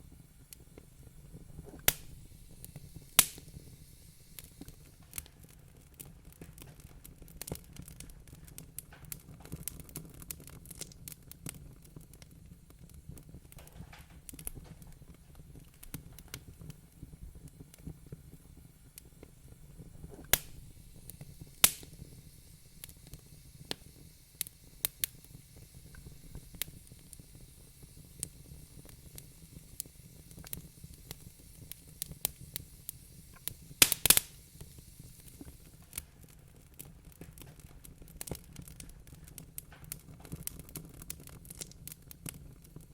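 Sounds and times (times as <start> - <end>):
fire popping: 0.0 - 42.9
soft hiss: 0.0 - 42.9.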